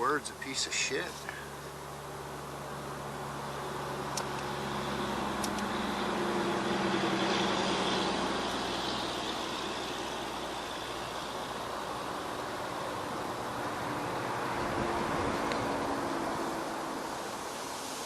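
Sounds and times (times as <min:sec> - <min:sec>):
camp stove flame rushing: 0:01.0 - 0:18.0.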